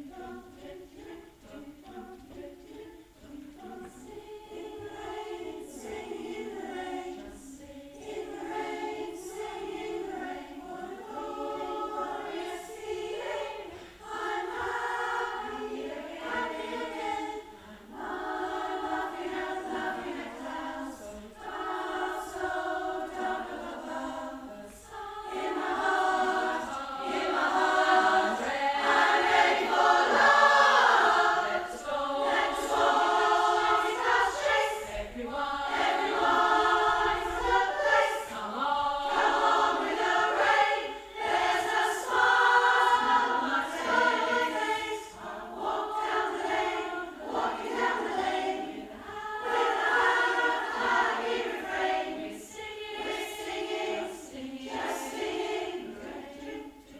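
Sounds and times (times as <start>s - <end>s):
women's choir singing: 0.0s - 56.9s.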